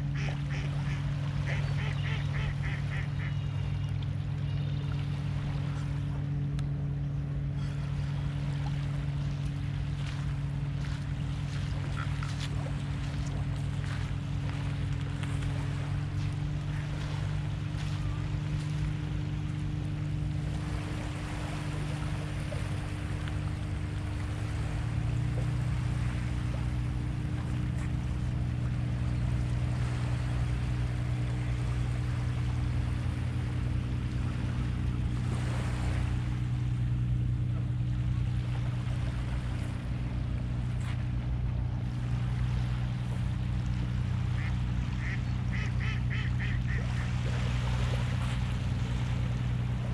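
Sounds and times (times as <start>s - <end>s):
distant boat engine droning: 0.0s - 49.9s
small waves lapping: 0.0s - 49.9s.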